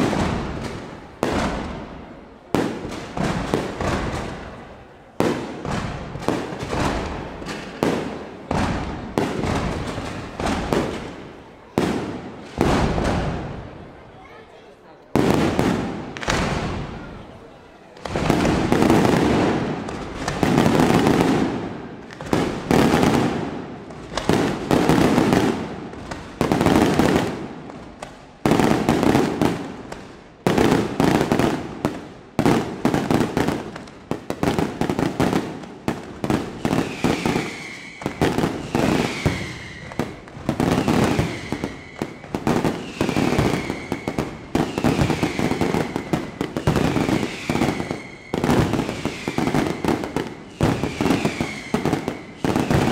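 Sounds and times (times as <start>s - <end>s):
fireworks bursting: 0.0s - 14.1s, 15.1s - 52.9s.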